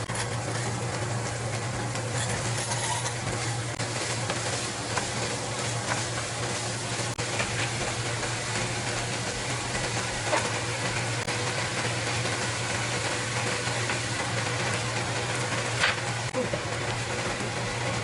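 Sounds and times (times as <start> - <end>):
machine-like hum: 0.0 - 18.0.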